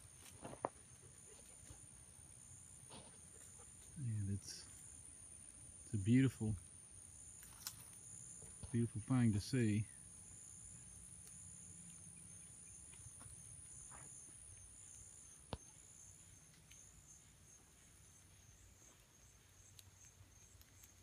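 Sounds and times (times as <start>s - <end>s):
insects whining: 0.0s - 21.0s
pulsing insect chirr: 0.0s - 21.0s.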